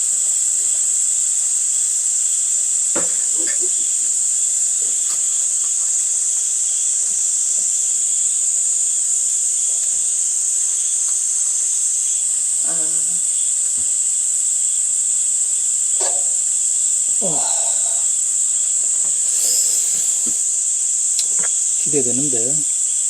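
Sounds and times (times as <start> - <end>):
cicada chorus: 0.0 - 23.0.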